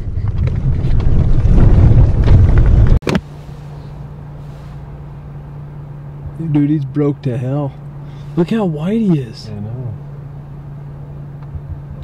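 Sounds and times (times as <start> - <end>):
steady low hum: 0.0 - 12.0
vehicle rumble on dirt road: 0.0 - 12.0.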